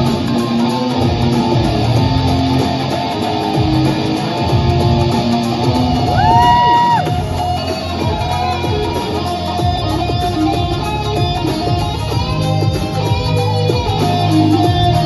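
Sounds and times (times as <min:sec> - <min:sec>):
solo guitar melody: 0:00.0 - 0:06.3, 0:07.1 - 0:15.0.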